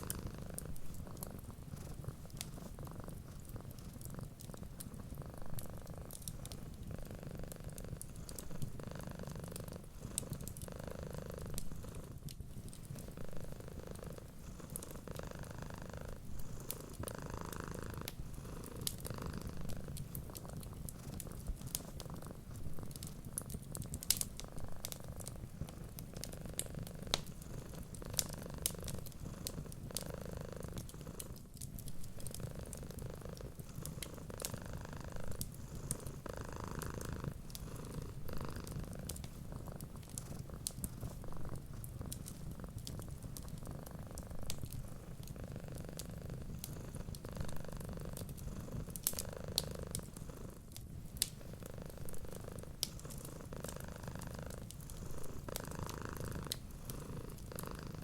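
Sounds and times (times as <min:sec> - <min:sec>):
wood fire crackling: 0:00.0 - 0:10.7, 0:11.4 - 0:58.0
cat purring: 0:00.0 - 0:58.0.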